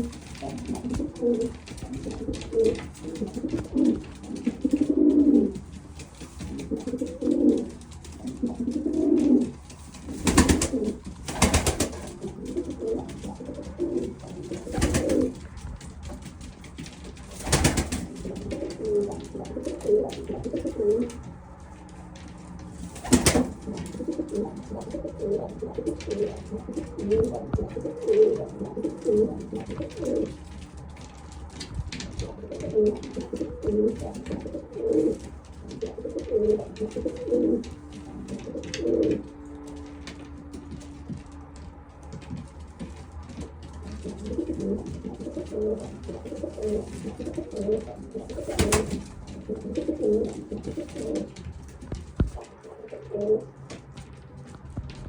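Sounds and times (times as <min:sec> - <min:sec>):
pigeons cooing: 0:00.0 - 0:30.7, 0:31.5 - 0:41.6, 0:43.4 - 0:54.0.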